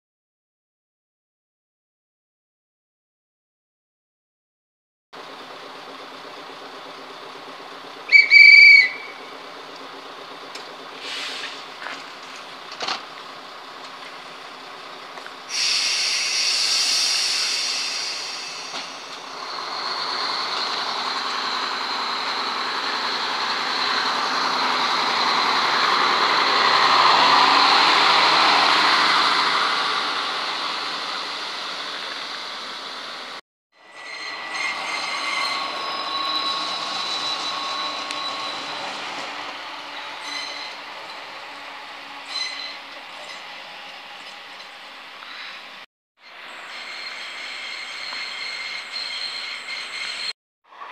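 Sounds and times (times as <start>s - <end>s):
railbus diesel engine revving: 5.2s - 50.9s
train running noise: 5.2s - 50.9s.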